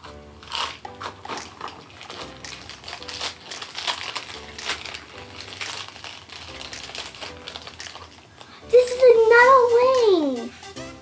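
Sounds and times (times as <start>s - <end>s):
wrapping being crumpled by hand: 0.0s - 9.1s.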